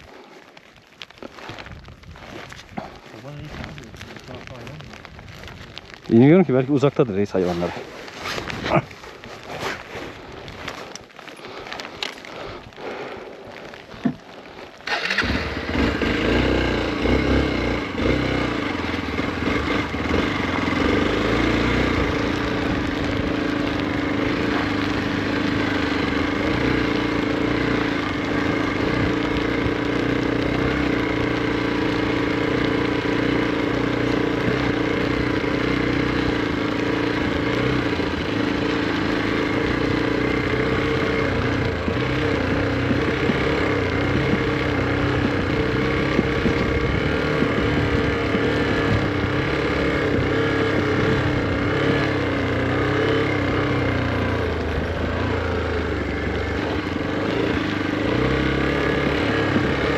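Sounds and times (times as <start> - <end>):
faint crackling and ticks: 0.0 - 59.9
motorcycle engine running: 11.4 - 59.9.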